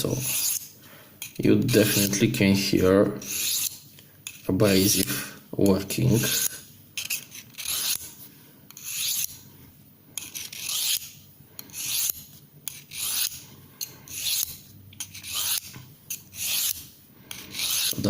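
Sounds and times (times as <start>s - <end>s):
knife rasping on ceramic rod: 0.0s - 2.2s, 3.2s - 5.0s, 6.2s - 9.4s, 10.2s - 18.0s.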